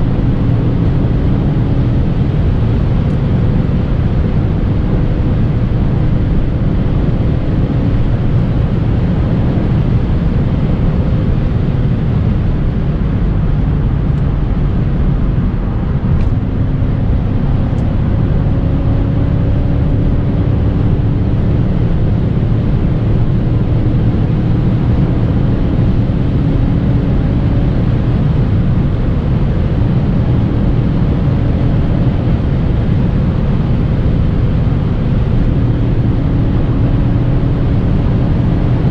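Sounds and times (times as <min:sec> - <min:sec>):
car engine cruising: 0:00.0 - 0:38.9
road and wind noise: 0:00.0 - 0:38.9.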